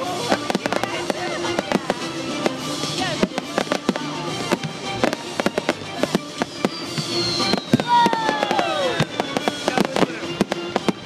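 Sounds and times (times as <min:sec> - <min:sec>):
fireworks bangs: 0:00.0 - 0:11.0
fireworks crackle: 0:00.0 - 0:11.0
music playing: 0:00.0 - 0:11.0.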